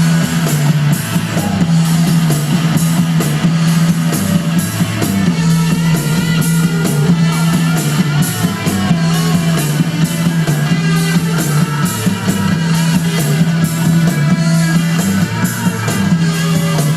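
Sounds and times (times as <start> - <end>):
rock music through speakers: 0.0 - 16.9.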